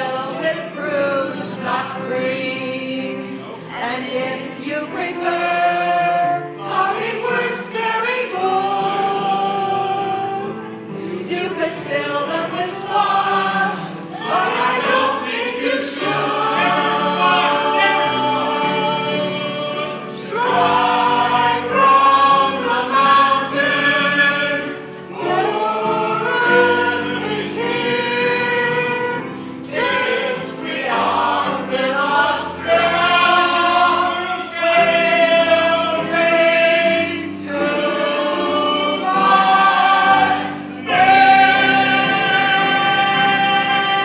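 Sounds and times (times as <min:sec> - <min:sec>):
group of voices singing: 0:00.0 - 0:44.0.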